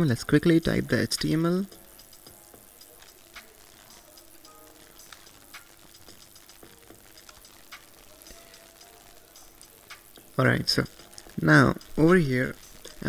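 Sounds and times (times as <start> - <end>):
low electrical hum and hiss: 0.0 - 13.0.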